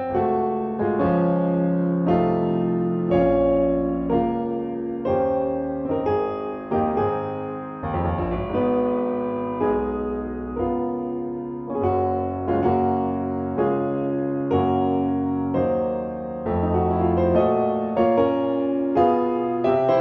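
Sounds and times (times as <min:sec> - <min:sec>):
gentle piano piece: 0:00.0 - 0:20.0.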